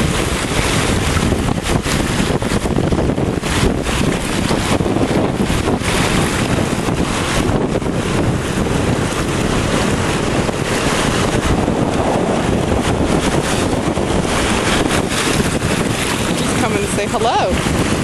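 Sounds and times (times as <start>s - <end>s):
surf washing against rocks: 0.0s - 18.0s
wind buffeting microphone: 0.0s - 18.0s.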